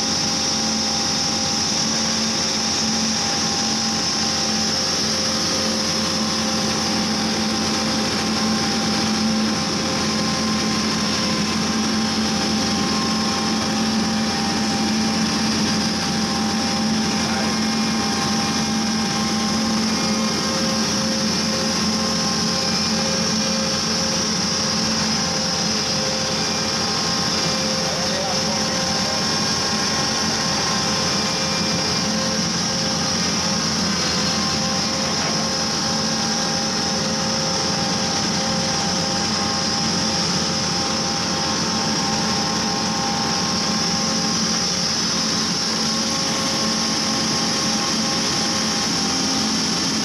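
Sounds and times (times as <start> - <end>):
drilling rig engine droning: 0.0 - 50.0.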